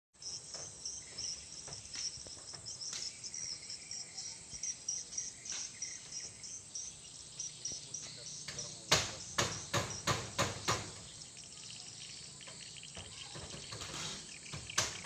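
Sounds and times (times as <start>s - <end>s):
insects chirping: 0.2s - 15.0s.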